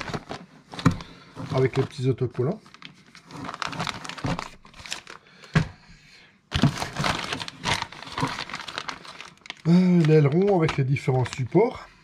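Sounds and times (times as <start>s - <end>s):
packaging crinkling and rustling: 0.0s - 5.7s, 6.5s - 11.9s.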